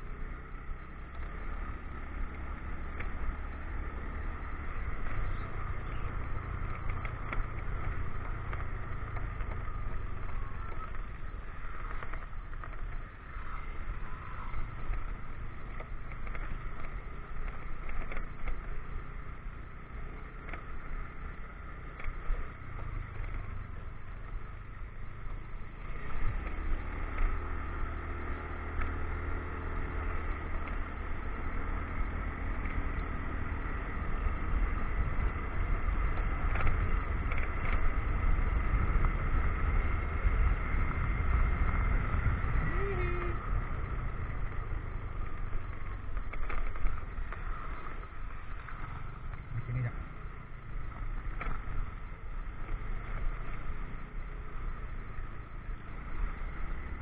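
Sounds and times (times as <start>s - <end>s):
motorcycle engine running: 0.0s - 57.0s
wind and road rumble: 0.0s - 57.0s.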